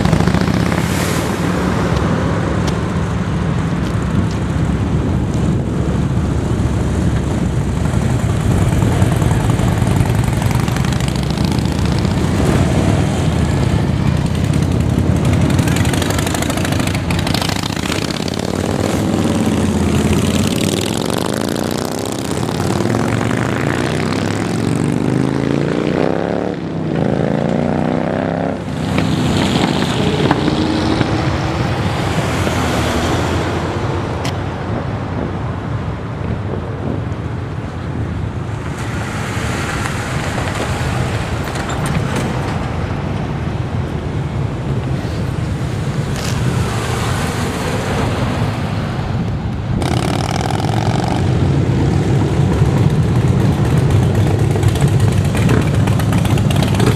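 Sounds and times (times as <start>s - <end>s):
motorcycle engines rumbling and revving: 0.0s - 56.9s.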